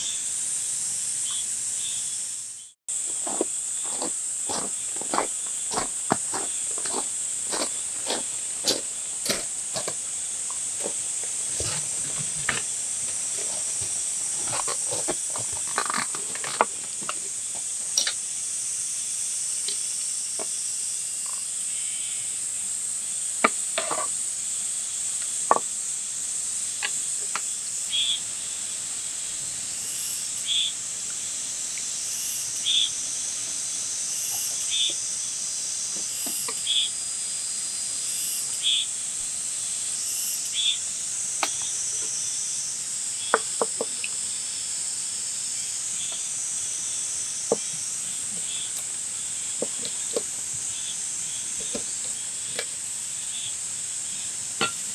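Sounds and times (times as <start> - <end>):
insect chorus: 0.0 - 54.9.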